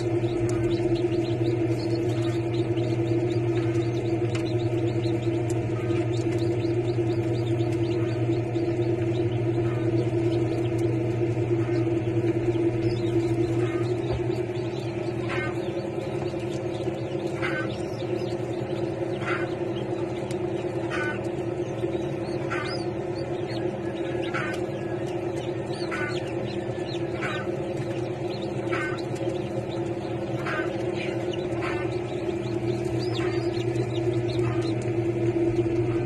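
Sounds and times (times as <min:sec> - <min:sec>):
chick peeping: 0:00.0 - 0:36.0
low hum: 0:00.0 - 0:36.0.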